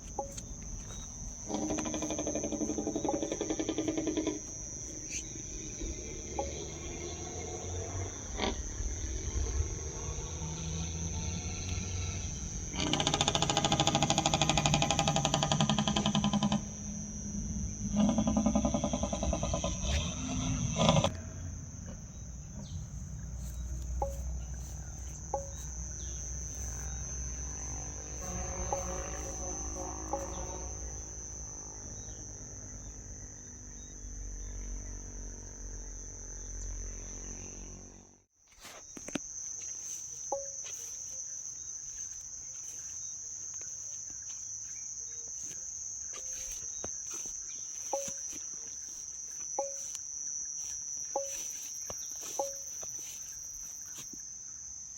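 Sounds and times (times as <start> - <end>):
high-pitched insect trill: 0.0 - 54.9.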